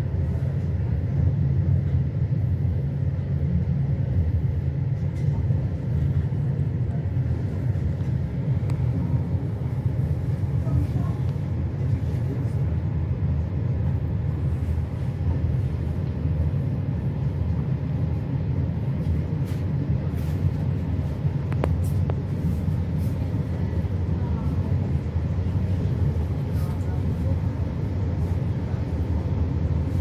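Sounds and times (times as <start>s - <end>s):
train rumbling at speed: 0.0s - 30.0s.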